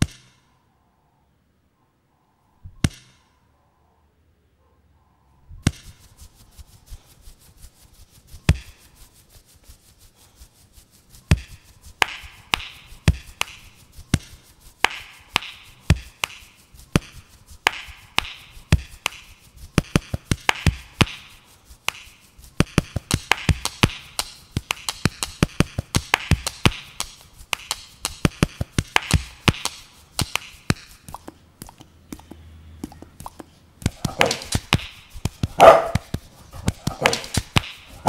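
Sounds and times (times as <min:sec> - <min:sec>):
hand pats on dog percussive beat: 0:05.6 - 0:10.0, 0:10.8 - 0:38.0.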